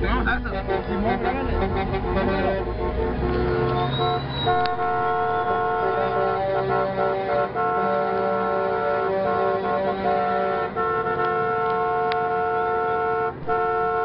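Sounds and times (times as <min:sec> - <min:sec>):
truck air horn blasts: 0:00.2 - 0:14.0.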